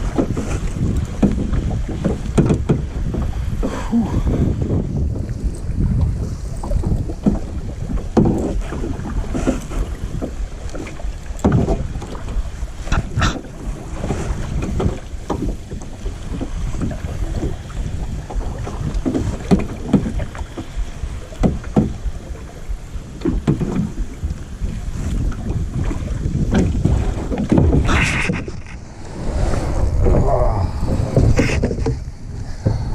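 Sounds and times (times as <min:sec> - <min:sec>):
paddle strokes splashing water: 0:00.0 - 0:32.9
wind rumble on microphone: 0:00.0 - 0:32.9.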